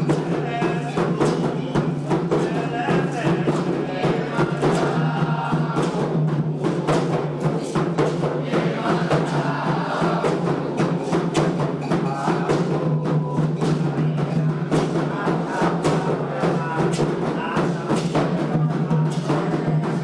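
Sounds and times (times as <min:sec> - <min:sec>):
drums beating fast rhythm: 0:00.0 - 0:20.0
voices singing: 0:00.0 - 0:20.0.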